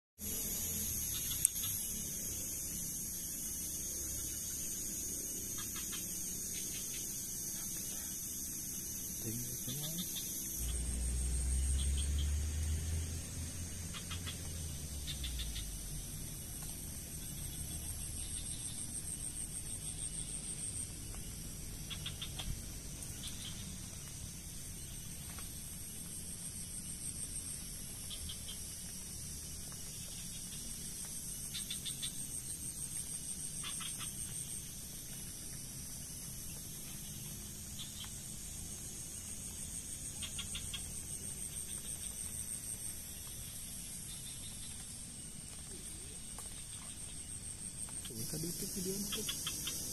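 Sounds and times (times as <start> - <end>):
insects buzzing: 0.2 - 49.9.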